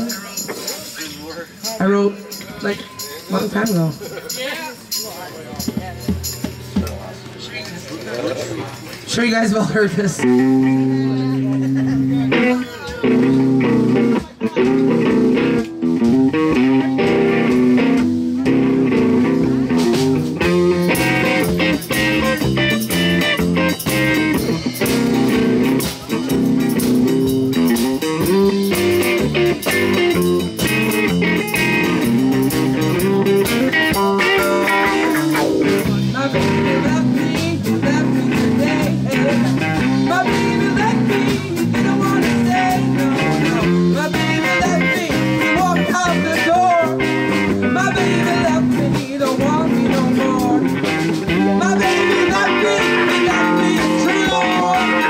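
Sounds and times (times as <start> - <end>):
bass guitar: 0.0 - 55.0
electric guitar: 5.5 - 55.0.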